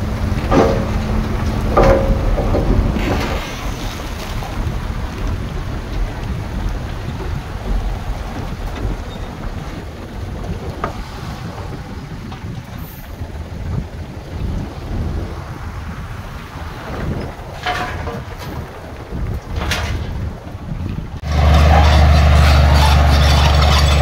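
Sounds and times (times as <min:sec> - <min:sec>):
heavy machinery diesel rumble: 0:00.0 - 0:24.0
wind buffeting microphone: 0:00.0 - 0:24.0.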